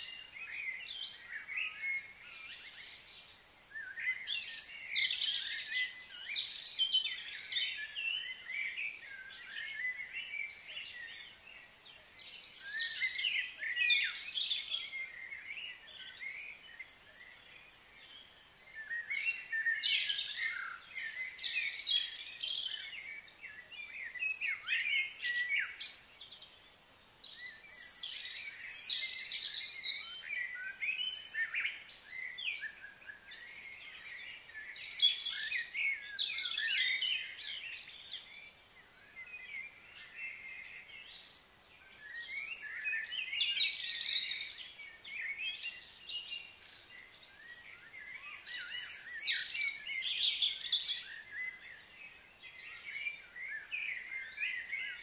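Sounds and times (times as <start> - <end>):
faint outdoor hiss: 0.0 - 55.0
songbirds chirping and singing: 0.0 - 55.0.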